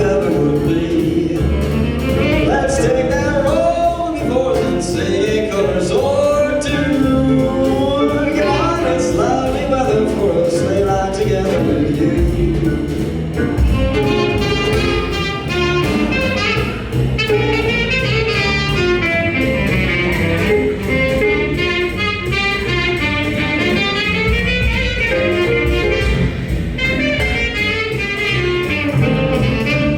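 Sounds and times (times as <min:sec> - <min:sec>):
live band playing jazz: 0:00.0 - 0:29.9.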